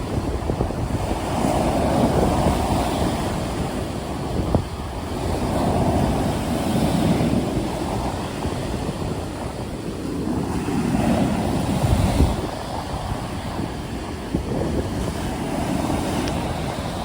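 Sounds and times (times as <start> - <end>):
sea waves washing in: 0.0 - 17.0
wind: 0.0 - 17.0.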